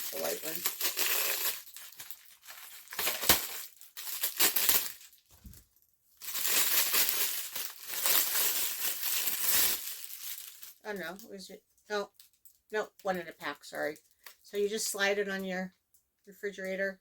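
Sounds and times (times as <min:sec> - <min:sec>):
plastic packaging crinkling: 0:00.0 - 0:14.5.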